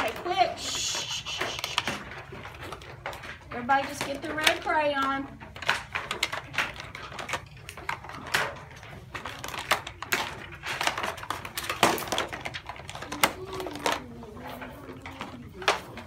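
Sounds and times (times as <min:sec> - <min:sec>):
plastic clicks and rattles: 0:00.0 - 0:16.0.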